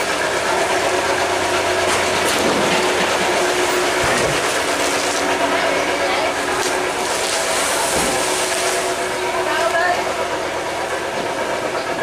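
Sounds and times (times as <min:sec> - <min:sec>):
water rushing through sluice gate: 0:00.0 - 0:11.7
boat engine humming: 0:00.0 - 0:12.0.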